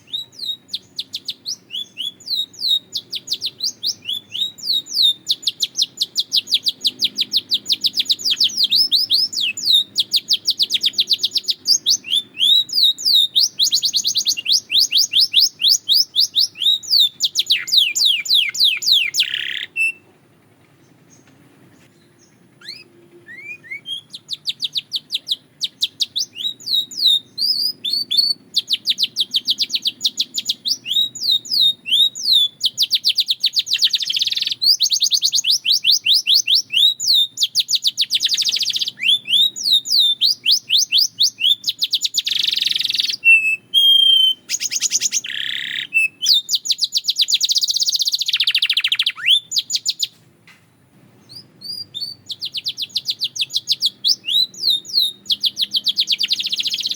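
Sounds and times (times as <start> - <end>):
canary singing trills: 0.0 - 50.2, 51.2 - 56.9.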